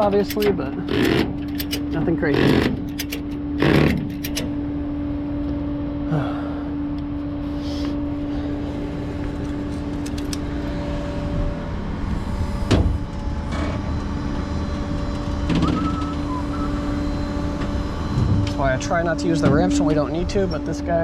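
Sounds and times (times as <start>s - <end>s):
road rumble: 0.0s - 21.0s
truck engine hum: 0.0s - 21.0s.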